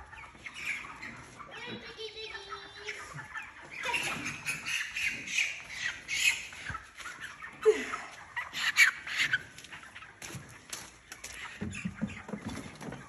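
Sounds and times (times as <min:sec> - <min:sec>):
chickens squawking: 0:00.0 - 0:13.0.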